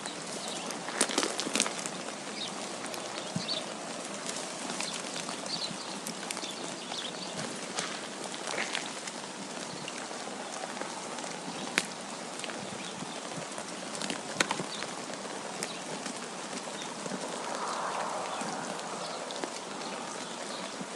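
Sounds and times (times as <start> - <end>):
wind and falling snow hiss: 0.0 - 20.9.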